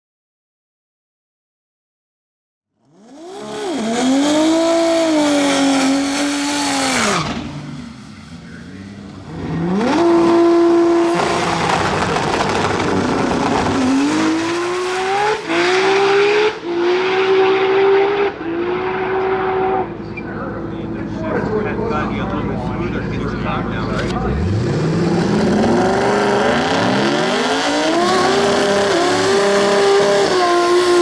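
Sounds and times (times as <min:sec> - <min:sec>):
racing car engine revving: 0:02.8 - 0:31.0.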